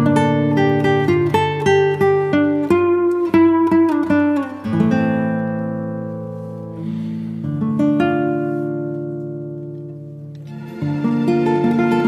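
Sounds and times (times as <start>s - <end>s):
slow guitar chords ringing: 0.0s - 12.0s.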